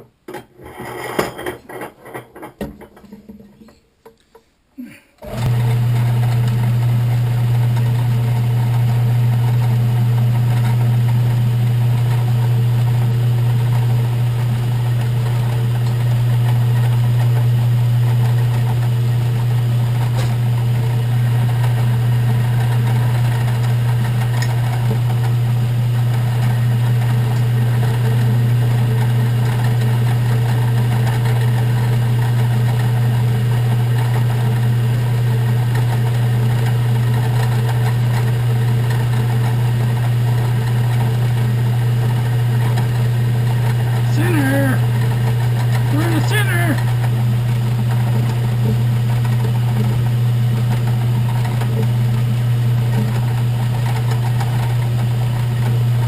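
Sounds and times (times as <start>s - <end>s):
milling machine motor humming: 5.2s - 56.0s.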